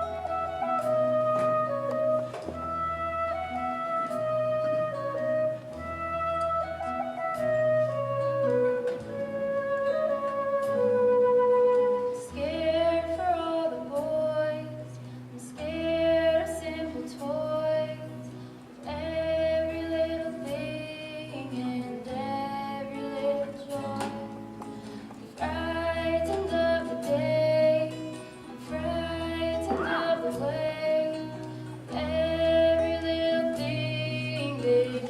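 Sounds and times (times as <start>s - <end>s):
woman singing: 0.0s - 24.6s, 25.3s - 35.0s
live instrumental accompaniment: 0.0s - 35.0s.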